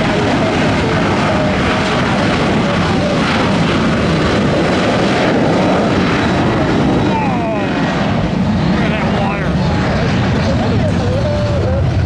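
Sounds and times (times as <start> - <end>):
jet engine rushing: 0.0 - 12.0.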